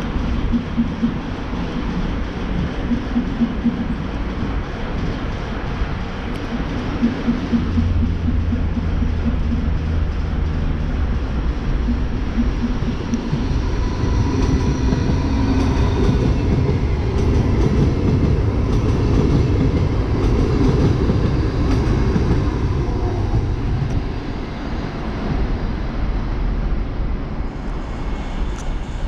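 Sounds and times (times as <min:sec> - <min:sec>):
wheels clicking on rails: 0:00.0 - 0:24.2
electric train passing: 0:00.0 - 0:29.0.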